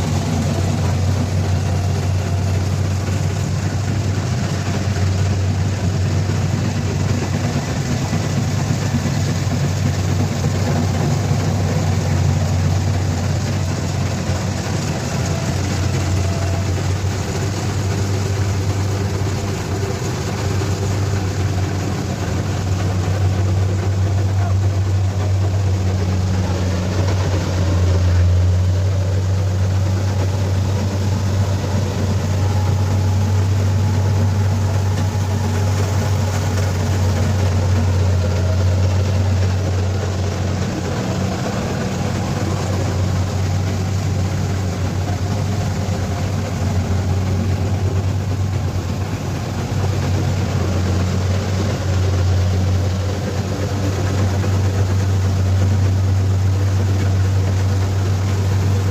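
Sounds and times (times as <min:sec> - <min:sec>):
combine harvester engine droning: 0:00.0 - 0:58.9.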